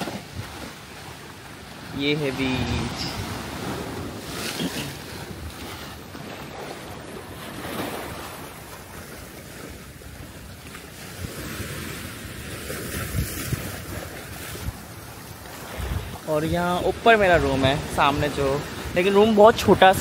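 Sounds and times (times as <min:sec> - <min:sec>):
waves splashing against seawall: 0:00.0 - 0:20.0
wind rumbling on microphone: 0:01.8 - 0:20.0.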